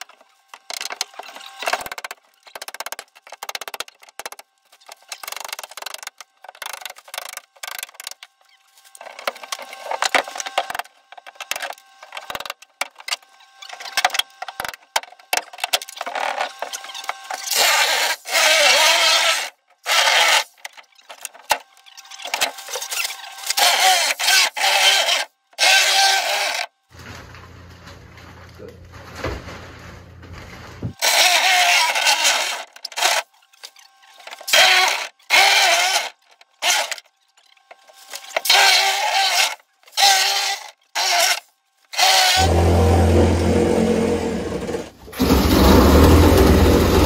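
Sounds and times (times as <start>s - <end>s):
fiberglass panels cracking and scraping: 0.0s - 26.0s, 26.9s - 41.4s.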